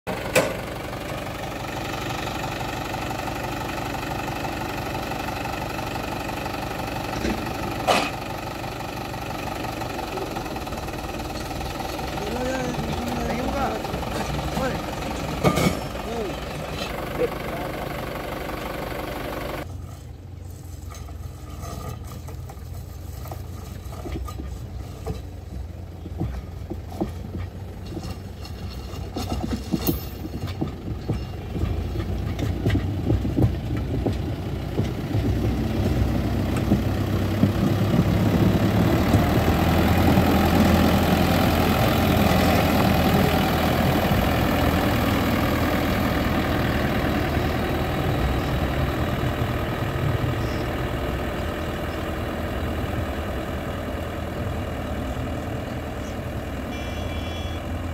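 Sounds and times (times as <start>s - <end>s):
tractor diesel engine running: 0.0s - 57.9s
steel wheels on rails: 0.1s - 57.2s.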